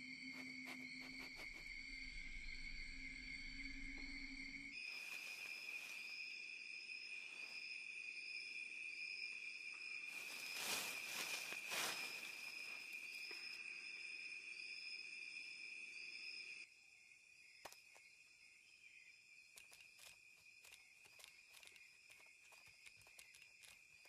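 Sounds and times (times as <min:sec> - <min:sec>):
insect chirp: 0:00.0 - 0:24.0
insect high buzz: 0:00.0 - 0:24.0.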